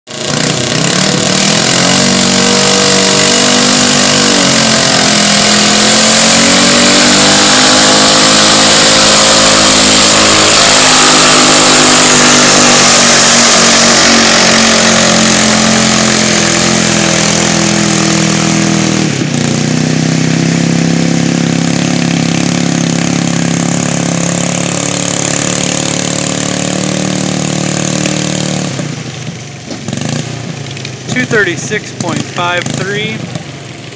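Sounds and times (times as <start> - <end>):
tractor engine at high revs: 0.0 - 33.9.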